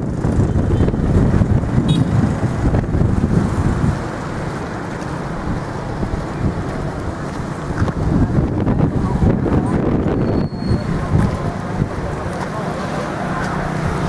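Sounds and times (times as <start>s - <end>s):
wind buffeting microphone: 0.0s - 12.7s
street traffic rumble: 0.0s - 14.0s.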